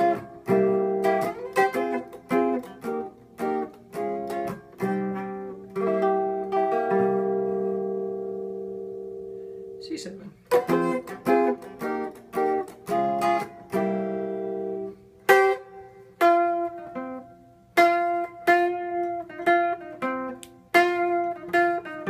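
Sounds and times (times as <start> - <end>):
electric guitar picking: 0.0 - 22.0.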